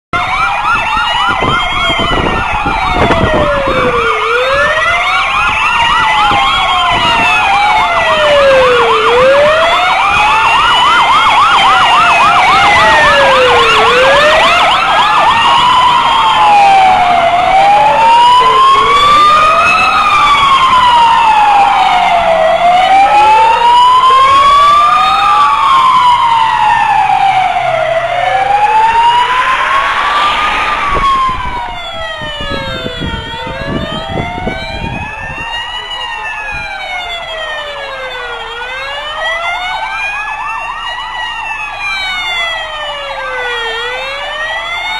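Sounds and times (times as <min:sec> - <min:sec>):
fast yelping siren: 0:00.2 - 0:44.9
wailing sirens: 0:00.2 - 0:44.9.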